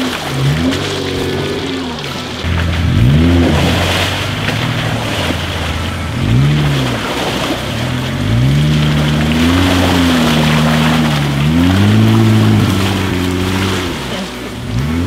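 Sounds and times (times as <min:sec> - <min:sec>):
car engine revving: 0:00.0 - 0:15.0
muddy water splashing: 0:00.0 - 0:15.0.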